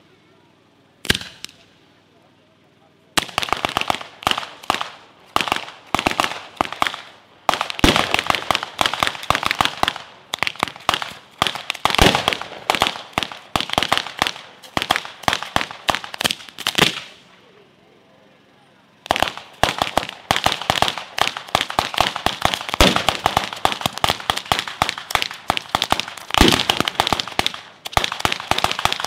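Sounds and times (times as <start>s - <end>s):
firecrackers banging: 1.0s - 1.8s, 3.2s - 17.4s, 19.0s - 29.0s.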